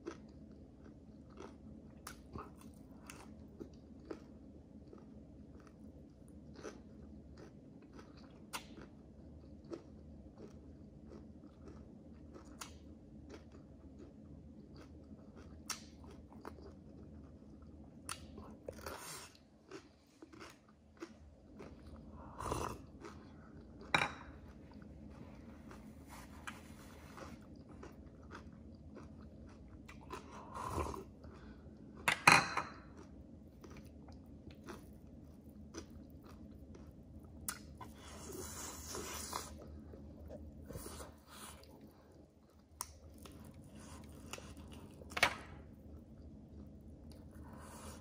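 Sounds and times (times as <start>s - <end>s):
food crunching: 0.0s - 48.0s
person chewing food: 0.0s - 48.0s.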